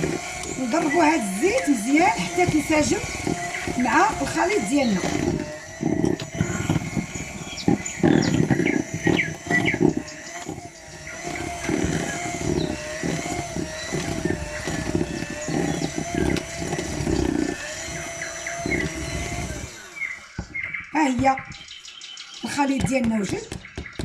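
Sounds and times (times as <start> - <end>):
electric hand mixer whine: 0.0 - 21.7.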